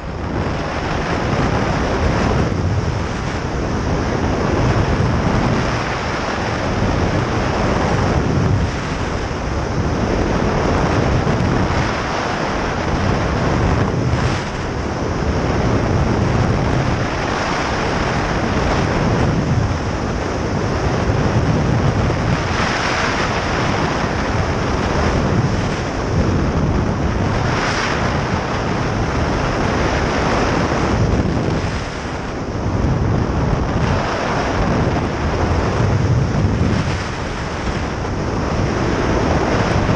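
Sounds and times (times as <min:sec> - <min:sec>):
loud wind roar: 0:00.0 - 0:39.9.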